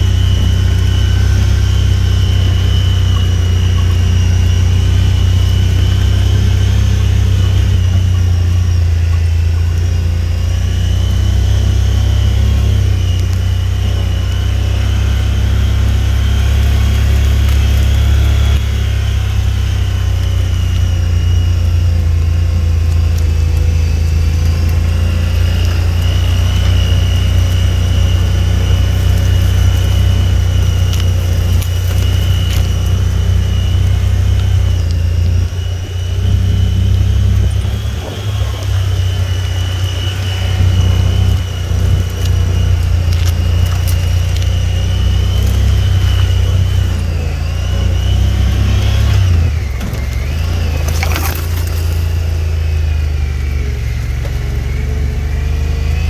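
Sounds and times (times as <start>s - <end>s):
thin high whine: 0.0s - 56.0s
vehicle engine rumbling: 0.0s - 56.0s.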